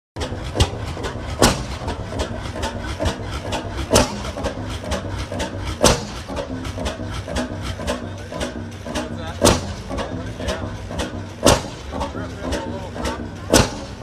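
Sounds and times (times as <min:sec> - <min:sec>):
engine cylinder firing pops: 0:00.2 - 0:14.0
stationary engine chuffing: 0:00.2 - 0:14.0.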